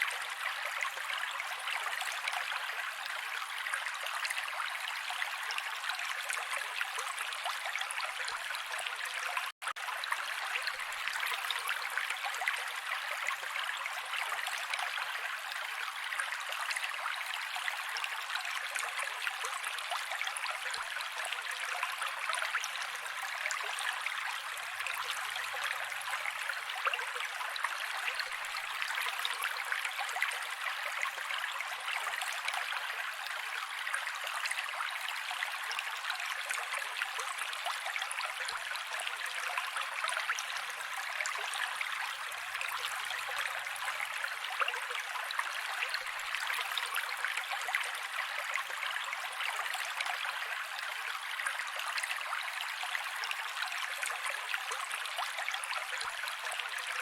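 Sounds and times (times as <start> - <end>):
creek running over rocks: 0.0 - 57.0.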